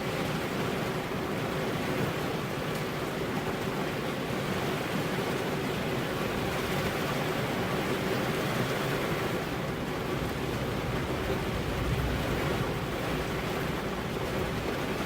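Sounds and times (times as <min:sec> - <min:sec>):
rain on car glass: 0:00.0 - 0:15.0.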